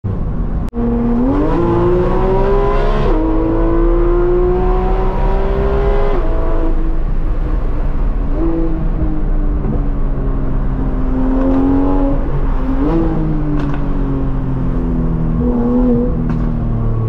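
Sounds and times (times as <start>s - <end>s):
car engine accelerating: 0.4s - 17.0s.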